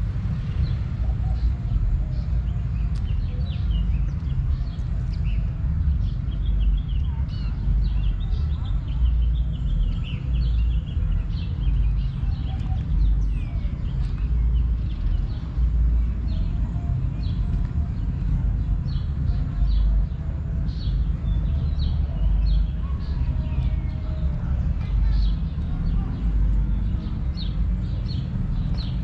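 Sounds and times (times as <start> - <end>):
low rumble on microphone: 0.0 - 29.0
songbirds chirping: 0.0 - 29.0.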